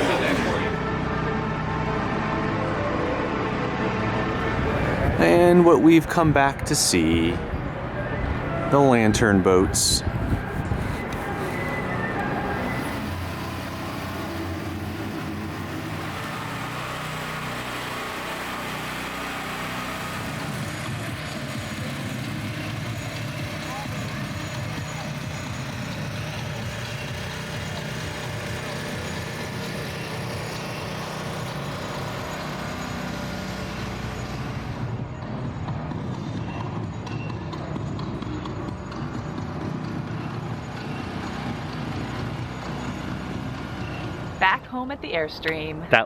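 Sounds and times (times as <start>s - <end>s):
city noise: 0.0s - 46.0s
engine humming: 0.0s - 46.0s.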